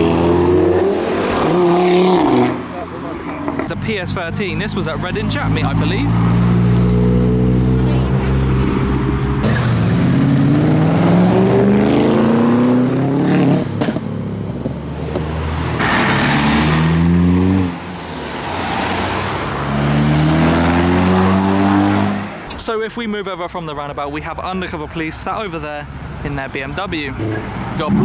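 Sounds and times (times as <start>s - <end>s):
car engine revving: 0.0s - 22.6s, 27.0s - 28.0s.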